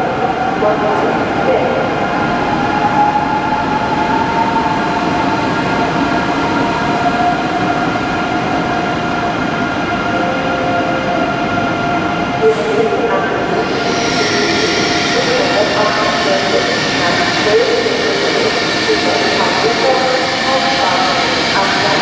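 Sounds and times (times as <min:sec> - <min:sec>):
train rolling noise: 0:00.0 - 0:22.0
train whine: 0:00.0 - 0:22.0.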